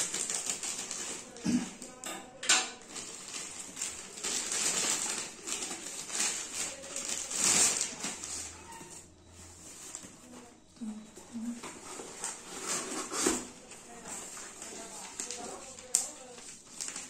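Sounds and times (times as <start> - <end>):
plastic bag rustling and crinkling: 0.0 - 2.0, 2.7 - 17.0.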